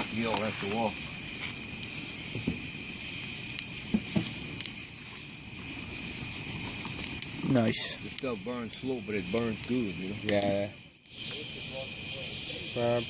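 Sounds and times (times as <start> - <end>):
campfire popping and crackling: 0.0 - 13.0
crickets chirring: 0.0 - 13.0.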